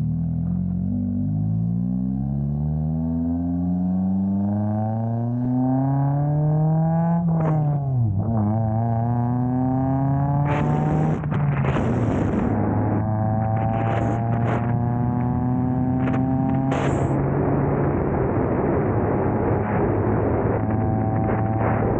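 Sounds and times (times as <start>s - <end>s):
car engine accelerating: 0.0s - 21.9s.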